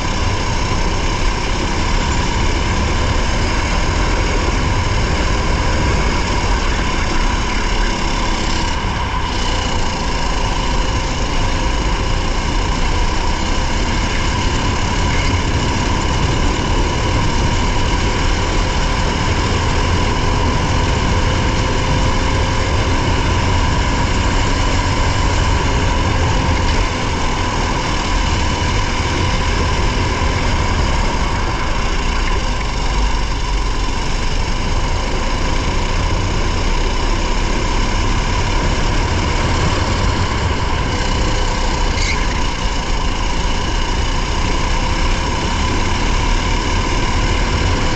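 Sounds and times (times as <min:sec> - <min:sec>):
heavy wind: 0:00.0 - 0:47.9
racing engine running hard: 0:00.0 - 0:47.9
road rumble: 0:00.0 - 0:47.9.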